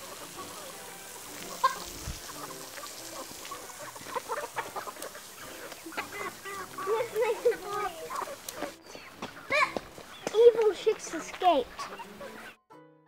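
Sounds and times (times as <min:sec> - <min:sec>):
chicks clucking: 0:00.0 - 0:12.6.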